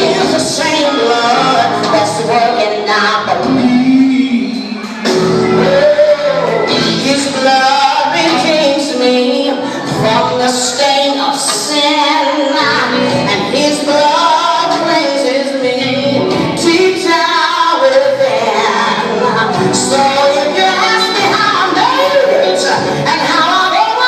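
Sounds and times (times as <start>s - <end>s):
gospel song with singing voices: 0.0s - 24.0s.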